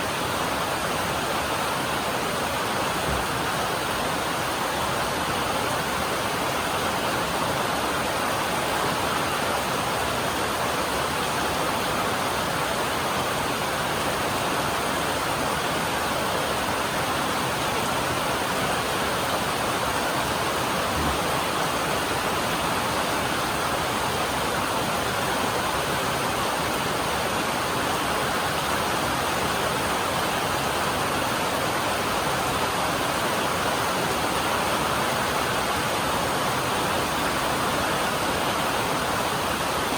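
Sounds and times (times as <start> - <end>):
rain on a metal roof: 0.0 - 39.9.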